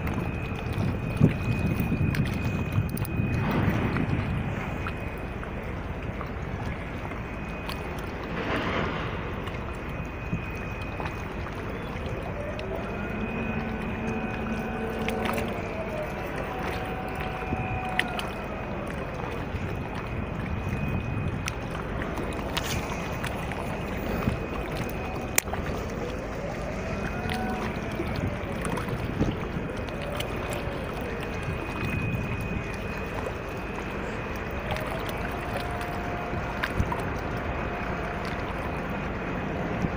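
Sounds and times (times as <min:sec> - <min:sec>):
distant motor droning: 0:00.0 - 0:39.9
water noise: 0:00.0 - 0:39.9
wind: 0:00.0 - 0:39.9.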